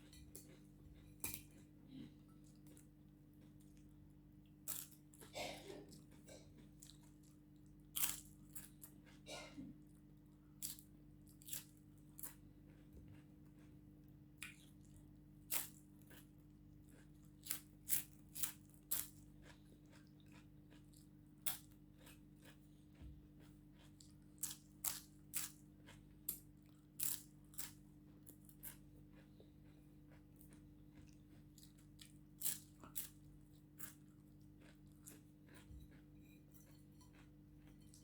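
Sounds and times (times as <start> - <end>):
crunching and chewing crispy food: 0.3 - 38.0.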